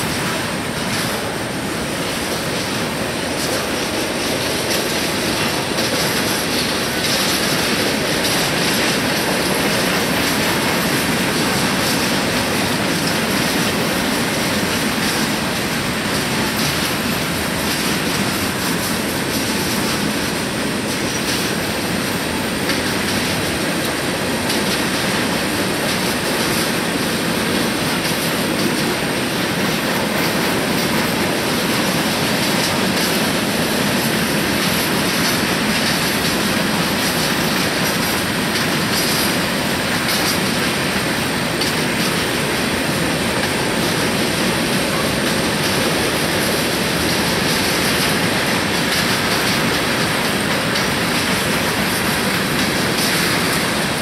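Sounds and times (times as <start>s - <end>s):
rail joint clicks: 0.0s - 54.0s
train wheels rumbling on rails: 0.0s - 54.0s.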